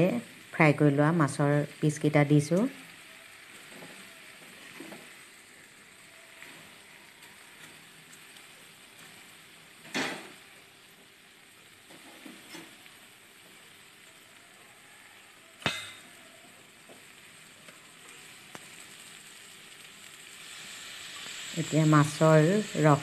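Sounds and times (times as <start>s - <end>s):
fish and paste sizzling in a pan: 0.0s - 23.0s.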